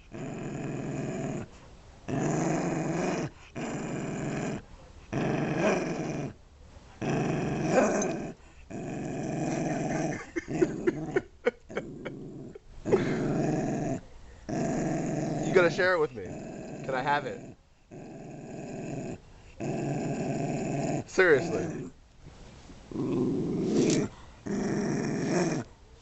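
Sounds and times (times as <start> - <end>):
dog growling: 0.0 - 1.5, 2.1 - 6.4, 7.0 - 22.0, 22.9 - 25.7.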